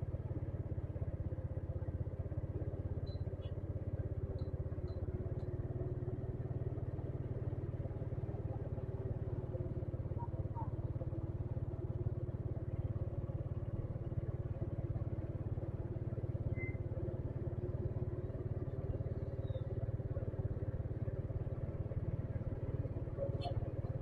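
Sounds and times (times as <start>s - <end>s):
motorcycle engine throbbing: 0.0s - 24.0s.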